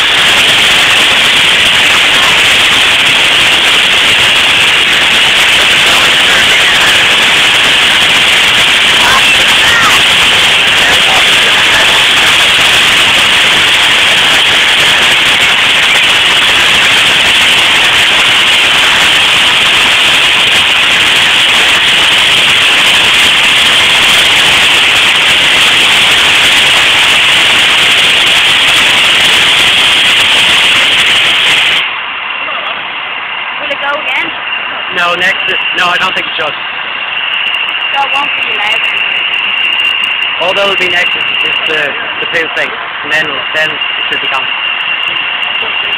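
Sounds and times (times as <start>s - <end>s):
steam locomotive blowing off steam: 0.0s - 45.9s.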